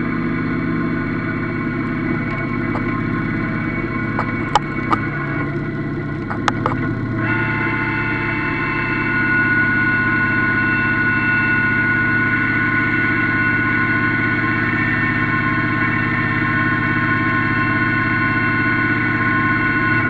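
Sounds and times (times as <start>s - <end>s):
diesel tractor engine running: 0.0s - 20.0s
high-pitched whine: 0.0s - 20.0s.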